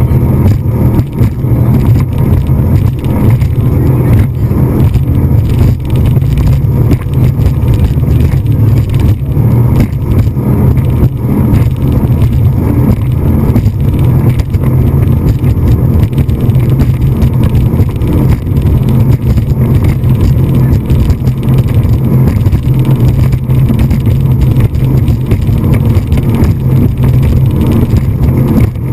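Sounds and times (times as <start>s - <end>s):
motorboat engine rumble: 0.0s - 28.9s.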